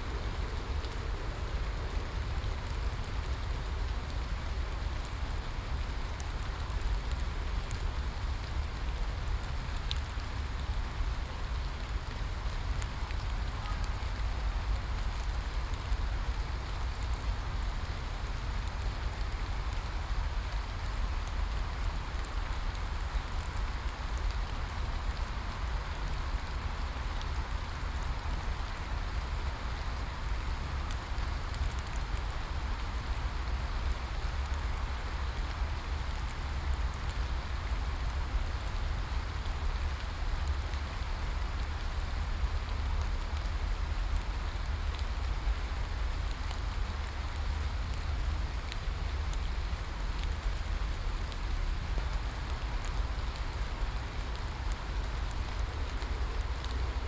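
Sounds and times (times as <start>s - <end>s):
steady rain hiss: 0.0s - 57.0s
raindrop ticks: 0.1s - 57.0s.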